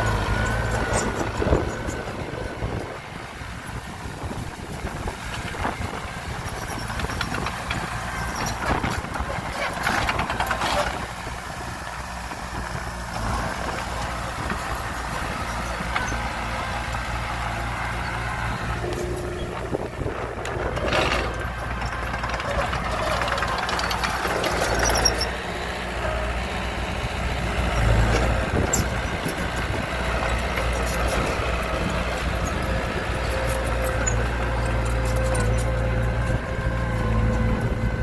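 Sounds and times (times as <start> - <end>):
heavy diesel engine running: 0.0 - 38.0.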